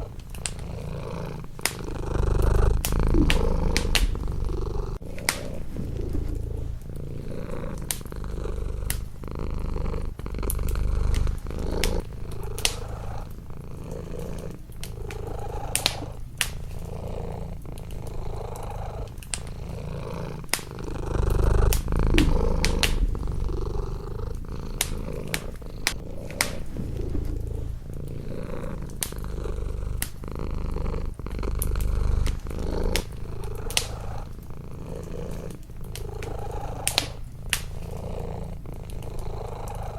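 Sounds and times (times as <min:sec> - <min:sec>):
wood fire crackling and popping: 0:00.0 - 0:39.7
cat purring: 0:00.0 - 0:39.9.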